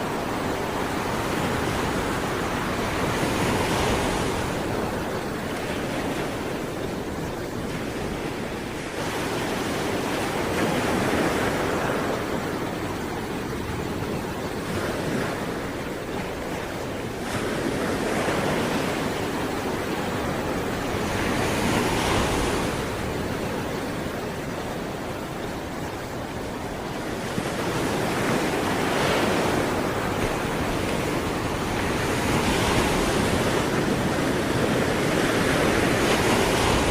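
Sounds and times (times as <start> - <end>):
waves breaking on shore: 0.0 - 36.9
wind noise on microphone: 0.0 - 36.9.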